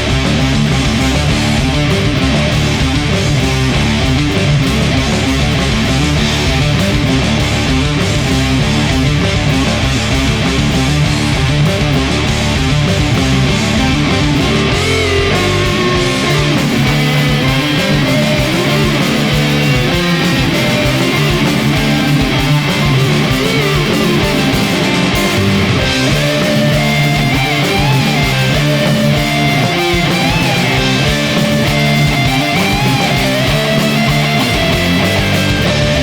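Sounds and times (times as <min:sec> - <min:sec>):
bass guitar riff: 0:00.0 - 0:36.0
heavy electric guitars: 0:00.0 - 0:36.0.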